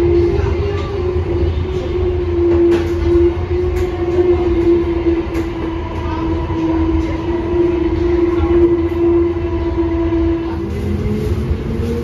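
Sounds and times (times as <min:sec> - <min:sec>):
light-rail car running: 0:00.0 - 0:12.0.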